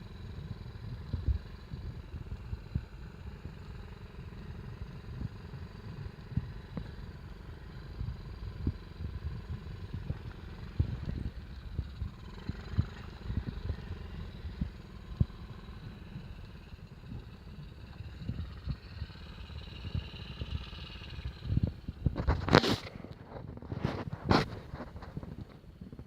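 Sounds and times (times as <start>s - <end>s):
wind buffeting microphone: 4.4s - 26.0s.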